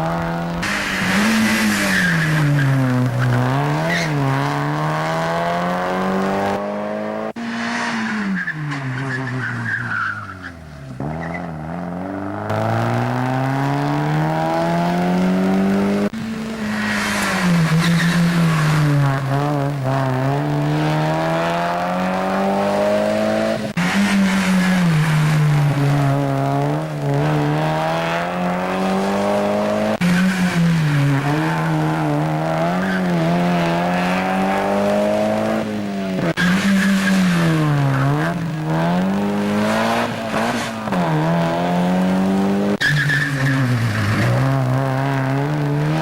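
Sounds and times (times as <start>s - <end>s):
race car engines revving: 0.0s - 46.0s.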